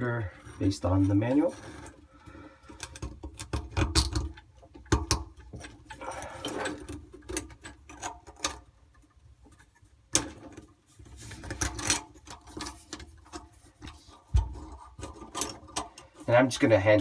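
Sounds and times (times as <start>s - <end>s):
faucet parts clicking and rattling: 0.4s - 10.7s, 11.4s - 17.0s.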